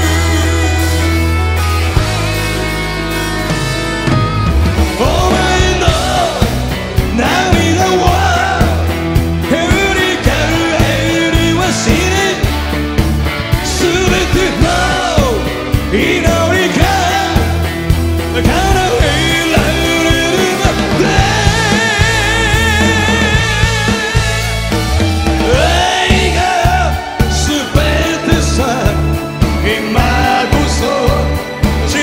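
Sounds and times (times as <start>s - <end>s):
man singing: 0.0s - 1.4s, 4.8s - 12.8s, 13.5s - 32.0s
rock band playing: 0.0s - 32.0s.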